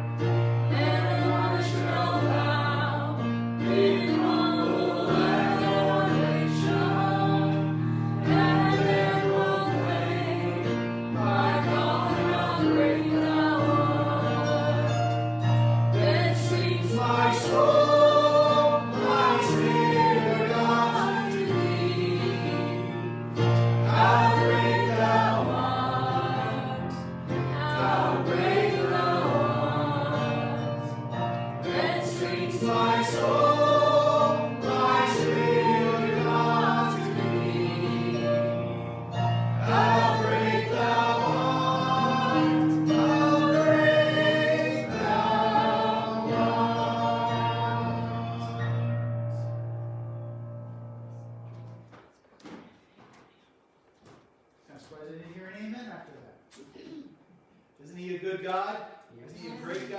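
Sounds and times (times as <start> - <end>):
gospel choir singing: 0.0 - 51.9, 59.2 - 59.9.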